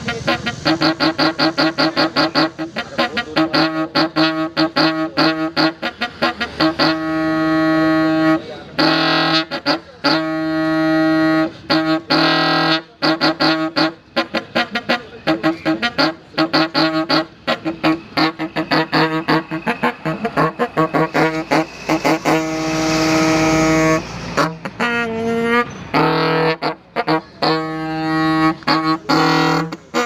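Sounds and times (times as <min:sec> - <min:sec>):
car horn honking: 0:00.0 - 0:30.0.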